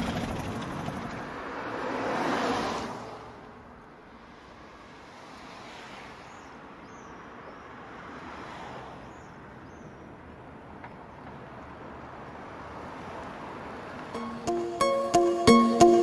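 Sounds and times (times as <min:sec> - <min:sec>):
cars driving on road: 0:00.0 - 0:16.0.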